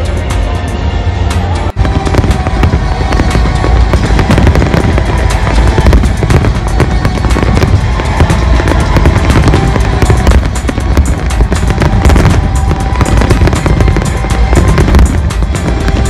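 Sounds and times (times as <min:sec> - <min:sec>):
music: 0:00.0 - 0:16.0
deep fireworks booms: 0:01.8 - 0:16.0
fireworks bangs and crackles: 0:01.8 - 0:16.0.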